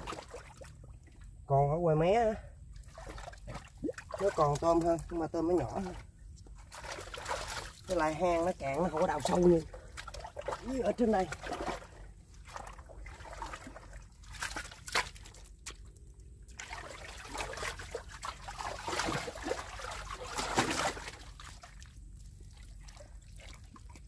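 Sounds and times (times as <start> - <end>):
water sloshing: 0.0 - 1.5, 2.6 - 24.0
wet mud squelching: 2.7 - 24.0.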